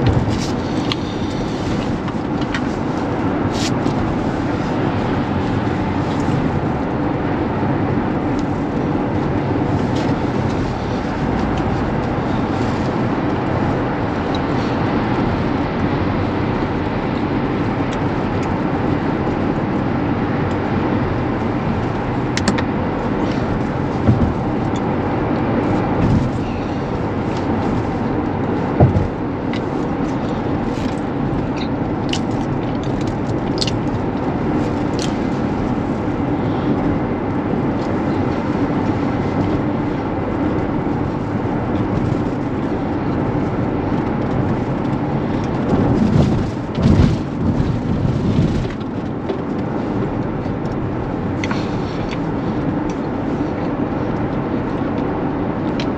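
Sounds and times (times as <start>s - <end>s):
road and tyre noise in car: 0.0s - 55.9s.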